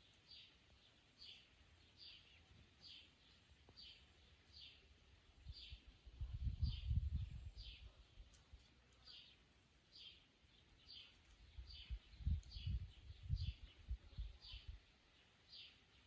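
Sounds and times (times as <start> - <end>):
small bird chirping: 0.0 - 16.0.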